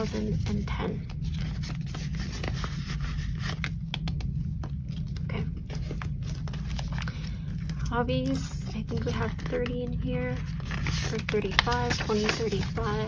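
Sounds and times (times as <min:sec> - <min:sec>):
paper and plastic rustling: 0:00.0 - 0:13.0
steady low hum: 0:00.0 - 0:13.0.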